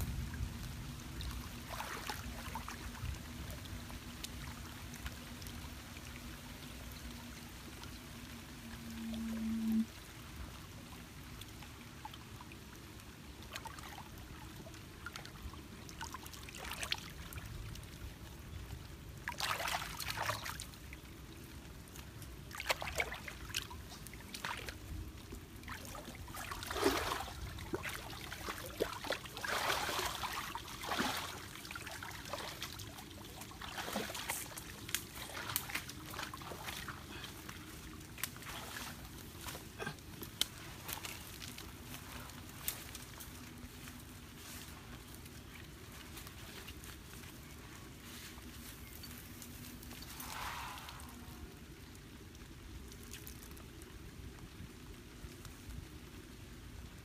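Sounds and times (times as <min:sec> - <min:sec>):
water trickling and sloshing: 0:00.0 - 0:57.0
splashes of wading: 0:00.1 - 0:51.8.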